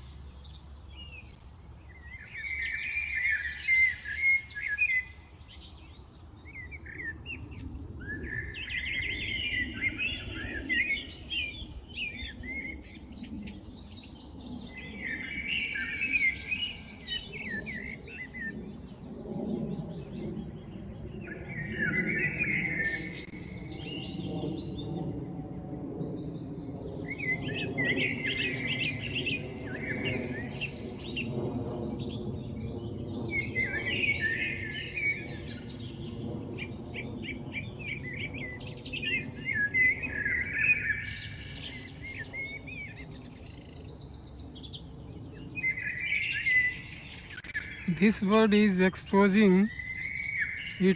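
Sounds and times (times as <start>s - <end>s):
songbirds singing and chirping: 0.0s - 50.9s.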